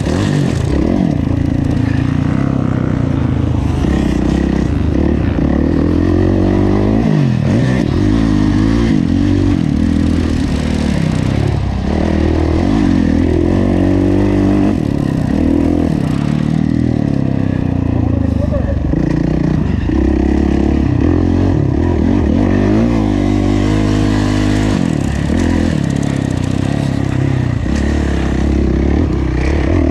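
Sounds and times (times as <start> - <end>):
motocross engine revving: 0.0 - 29.9.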